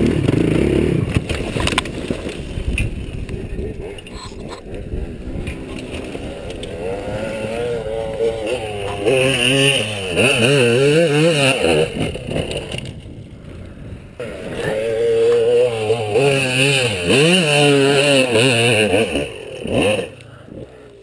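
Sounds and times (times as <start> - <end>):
quad engine revving: 0.0 - 13.0, 14.2 - 21.0.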